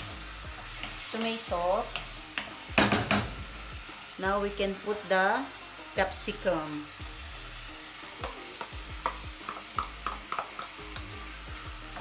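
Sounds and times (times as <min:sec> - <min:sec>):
low frying sizzle: 0:00.0 - 0:12.0.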